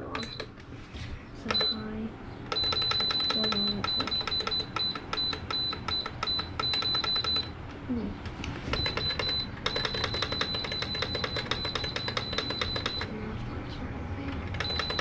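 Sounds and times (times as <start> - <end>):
appliance control panel beeping: 0.0 - 0.6, 1.4 - 7.7, 8.6 - 13.3, 14.4 - 15.0.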